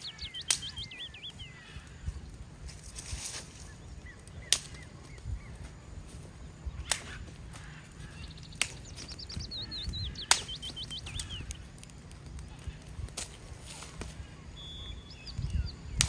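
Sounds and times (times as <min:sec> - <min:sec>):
songbird singing sliding notes: 0:00.0 - 0:11.8, 0:13.5 - 0:16.0
wind rumbling in microphone: 0:00.0 - 0:16.0.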